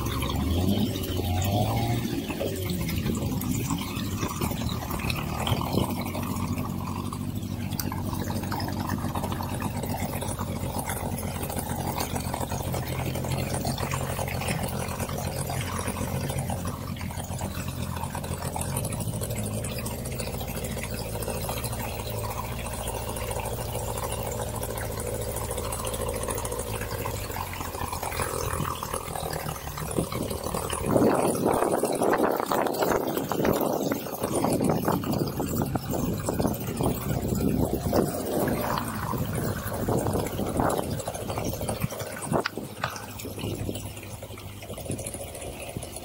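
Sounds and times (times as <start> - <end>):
outboard motor running: 0.0 - 46.0
water noise: 0.0 - 46.0.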